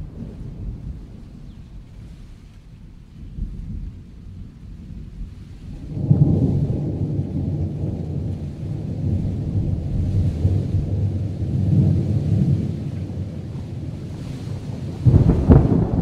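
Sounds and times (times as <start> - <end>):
rain hissing: 0.0 - 16.0
rolling thunder: 0.0 - 16.0.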